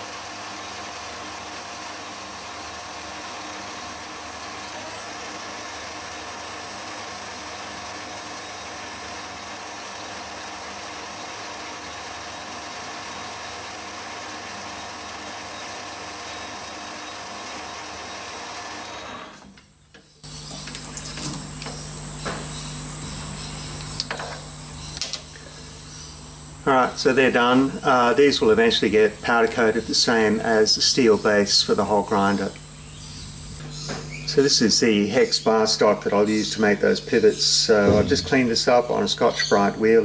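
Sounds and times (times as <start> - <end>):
low hum and high-pitched whine: 0.0 - 6.4, 7.4 - 10.2, 14.7 - 18.2, 18.9 - 40.0
metal lathe whirring: 0.0 - 19.6, 20.3 - 40.0.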